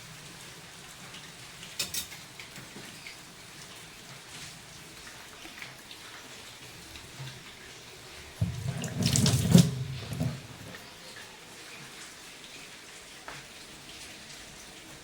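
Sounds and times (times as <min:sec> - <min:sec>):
water running: 0:00.4 - 0:15.0.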